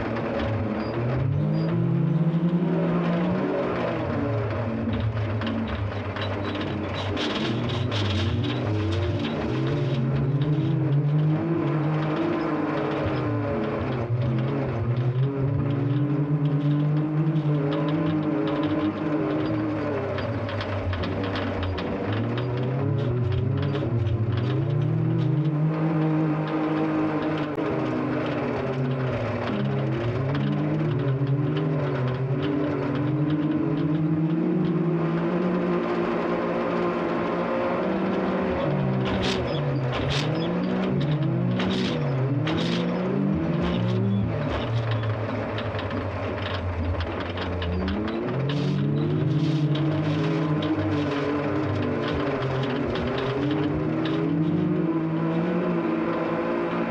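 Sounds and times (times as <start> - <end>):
engine revving under hard throttle: 0.0 - 56.9.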